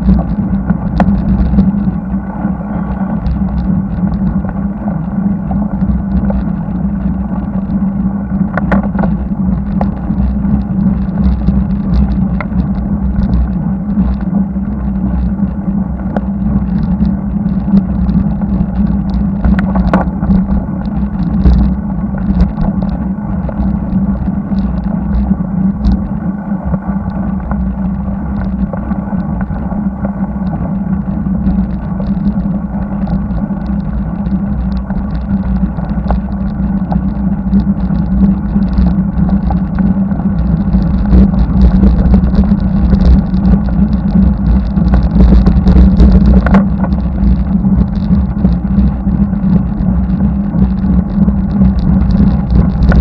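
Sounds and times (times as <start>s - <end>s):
bicycle riding noise: 0.0s - 53.0s.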